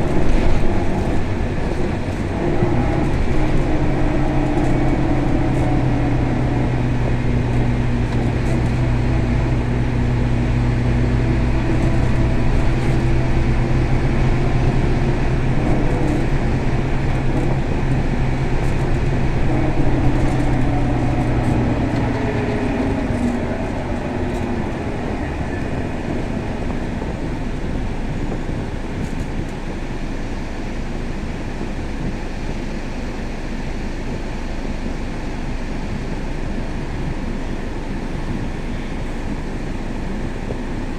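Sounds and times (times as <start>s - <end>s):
bus engine humming: 0.0s - 40.9s
cabin rumble: 0.0s - 40.9s.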